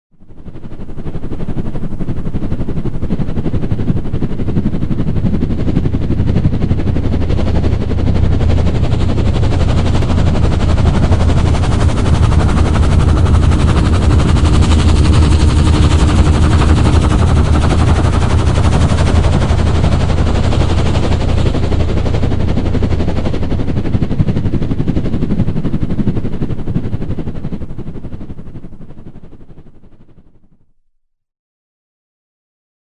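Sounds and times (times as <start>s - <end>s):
helicopter rotor chopping: 0.3s - 30.3s.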